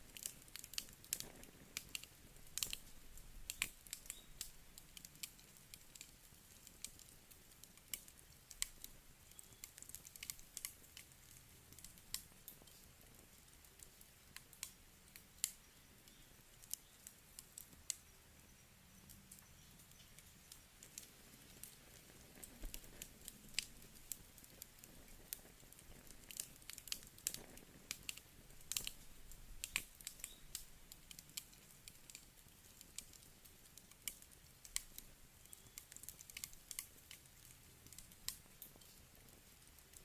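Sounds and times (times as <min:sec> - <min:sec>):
faint steady hiss: 0:00.0 - 0:40.0
wood fire crackling: 0:00.0 - 0:40.0.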